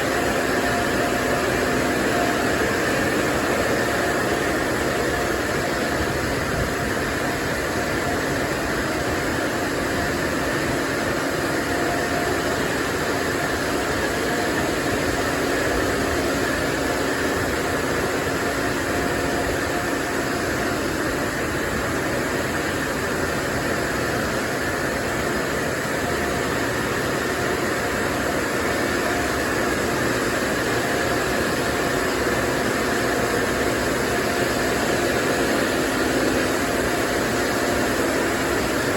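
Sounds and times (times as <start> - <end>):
faint constant whine: 0.0 - 38.9.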